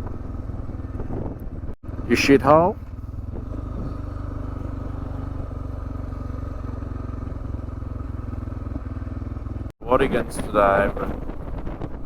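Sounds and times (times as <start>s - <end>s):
motorcycle engine running steadily: 0.0s - 12.0s.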